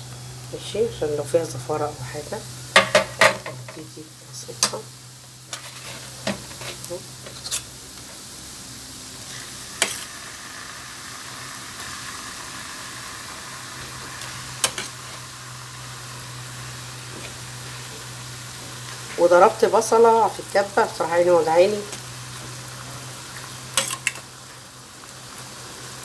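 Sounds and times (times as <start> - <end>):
liver sizzling in a pan: 0.0 - 26.0.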